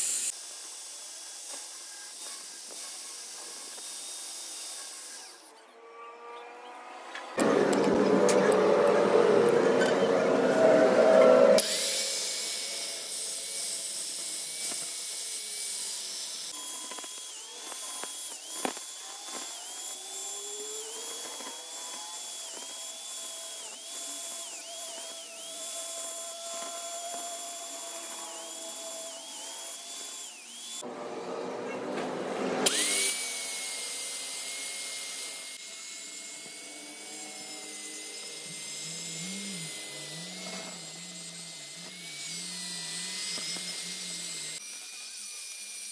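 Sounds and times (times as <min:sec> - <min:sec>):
angle grinder grinding steel: 0:00.0 - 0:45.9.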